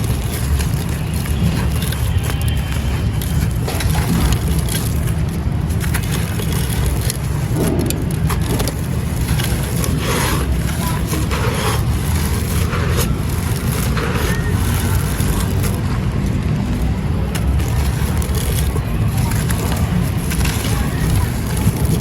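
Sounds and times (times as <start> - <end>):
sand and clay crunching: 0.0 - 22.0
steady low rumble: 2.8 - 22.0.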